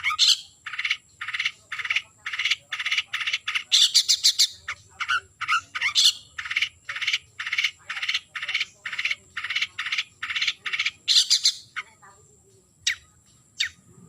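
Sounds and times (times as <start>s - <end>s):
shrike harsh scolding calls: 0.0s - 12.0s.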